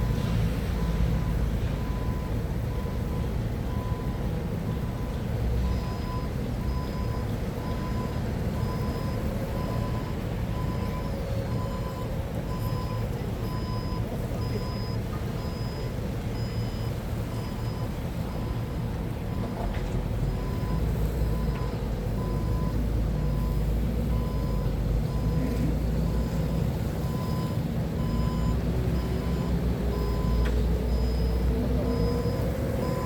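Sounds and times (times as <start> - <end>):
forklift engine running: 0.0 - 33.0
reversing alarm beeping: 0.0 - 33.0.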